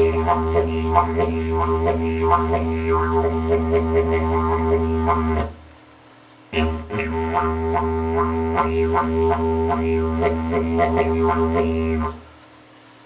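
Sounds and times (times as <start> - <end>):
didgeridoo drone: 0.0 - 5.7, 6.5 - 12.3.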